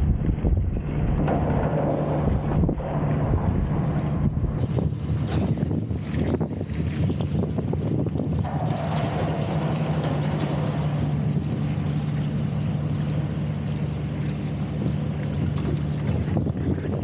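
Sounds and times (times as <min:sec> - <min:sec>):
low engine drone: 0:00.0 - 0:17.0
noisy wash of agitator: 0:00.0 - 0:17.0.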